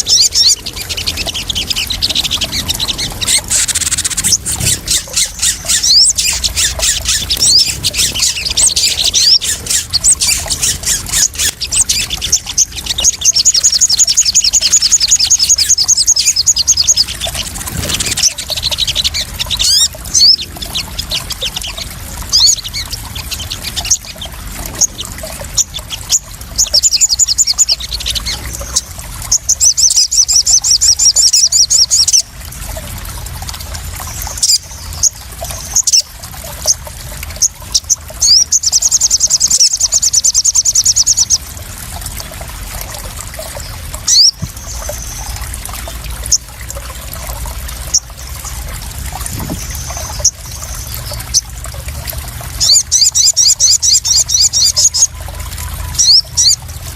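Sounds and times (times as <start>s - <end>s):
small birds chirping and trilling: 0.0s - 32.3s, 33.7s - 41.6s, 42.9s - 56.9s
water trickling and splashing: 0.0s - 56.9s.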